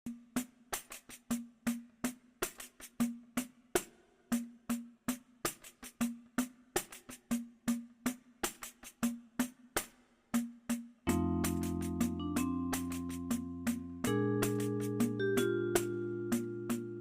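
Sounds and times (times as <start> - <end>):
drum machine beat: 0.1 - 17.0.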